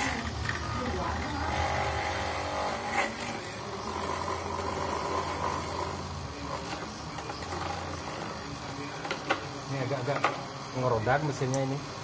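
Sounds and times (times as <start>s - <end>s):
coconut grater motor humming: 0.0s - 11.5s.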